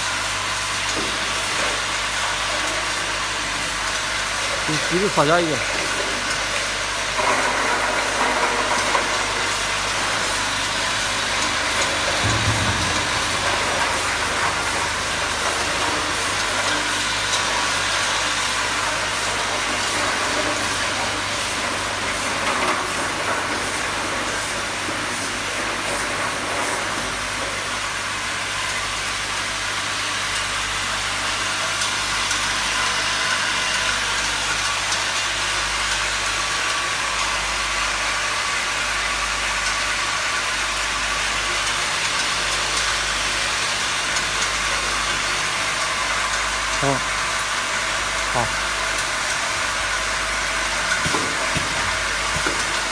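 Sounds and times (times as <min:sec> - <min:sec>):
machine humming with hiss: 0:00.0 - 0:52.9.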